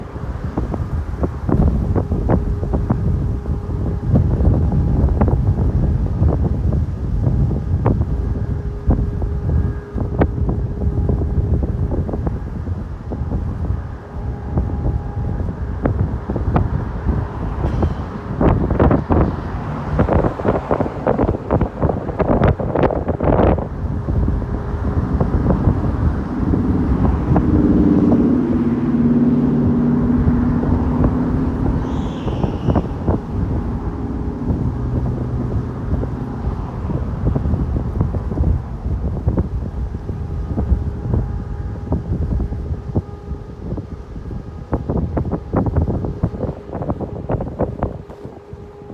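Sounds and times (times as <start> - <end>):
steady low hum: 0.0 - 48.9
wind buffeting microphone: 0.0 - 48.9.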